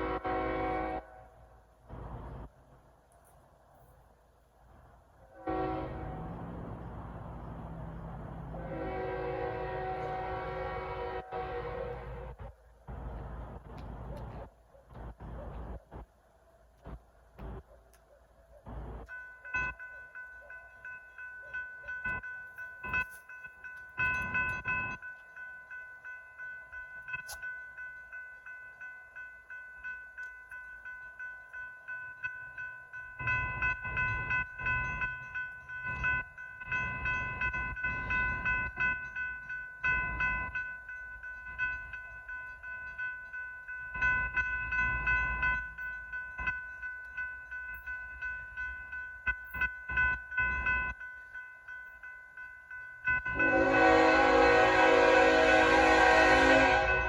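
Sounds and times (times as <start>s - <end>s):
railroad crossing bell ringing: 0.0s - 2.5s, 5.2s - 57.0s.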